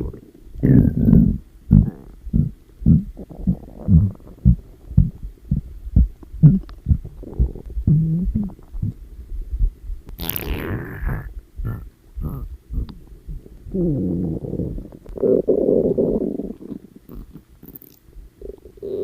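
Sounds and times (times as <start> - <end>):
stomach growling: 0.0 - 9.0, 10.2 - 19.0.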